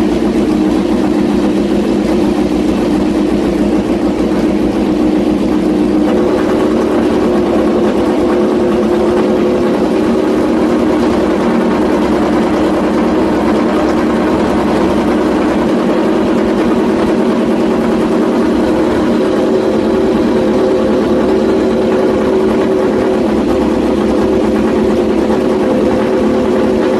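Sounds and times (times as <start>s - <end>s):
motorcycle engine running steadily: 0.0s - 26.9s.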